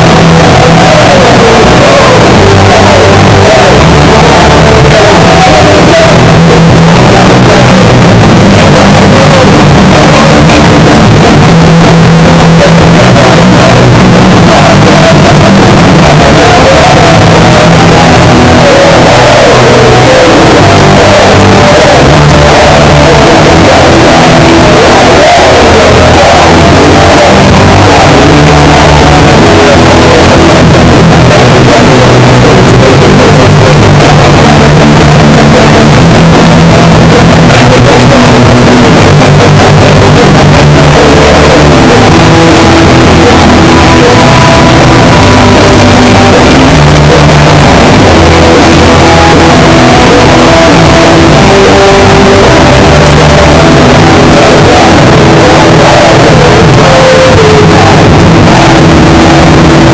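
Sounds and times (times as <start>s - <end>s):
bass guitar held notes: 0.0s - 59.9s
punk band playing live: 0.0s - 59.9s.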